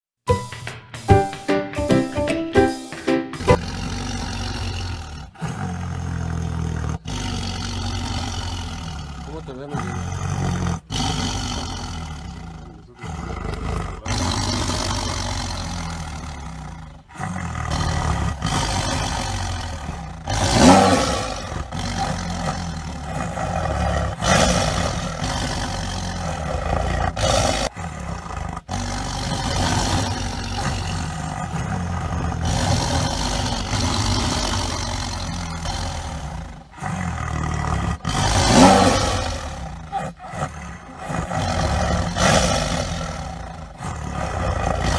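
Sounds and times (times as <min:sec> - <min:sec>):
tiger roaring: 0:04.1 - 0:44.9.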